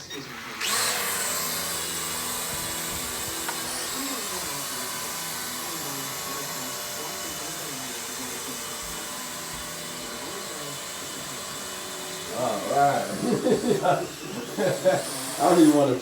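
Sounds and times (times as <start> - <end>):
drone motor and rotors whirring: 0.0 - 16.0.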